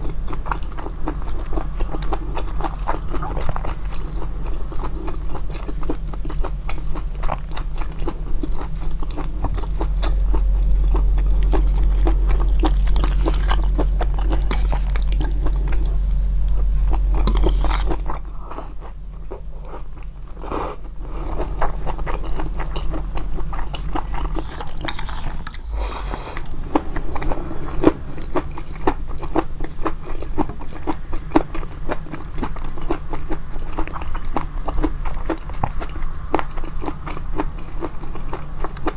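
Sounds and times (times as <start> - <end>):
low hum: 0.0 - 31.3
wet chewing of noodles: 0.0 - 38.9.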